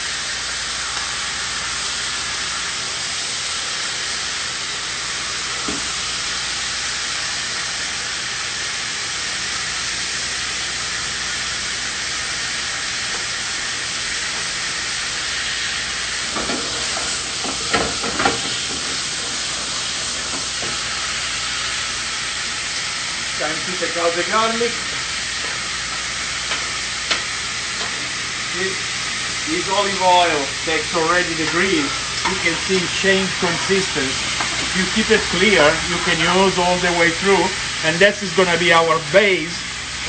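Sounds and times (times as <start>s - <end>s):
meat sizzling in a pan: 0.0s - 40.0s.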